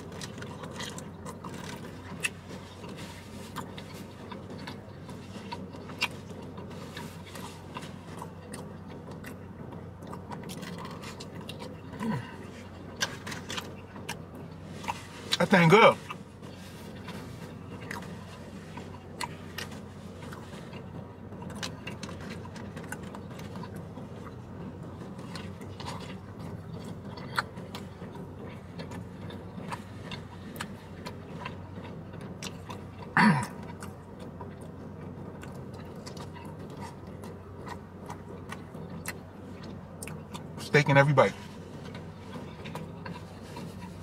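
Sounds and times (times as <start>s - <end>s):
chewing and biting food: 0.0s - 44.0s
steady low hum: 0.0s - 44.0s.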